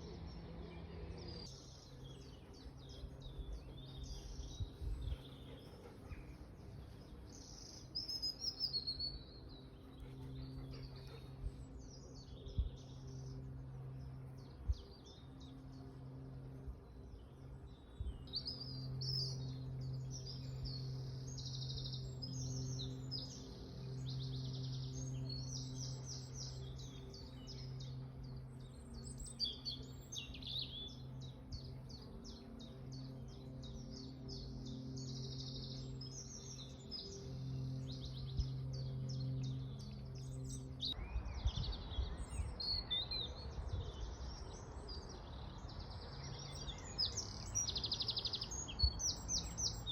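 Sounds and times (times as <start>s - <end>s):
steady low hum: 0.0s - 42.6s
songbirds singing: 0.0s - 49.9s.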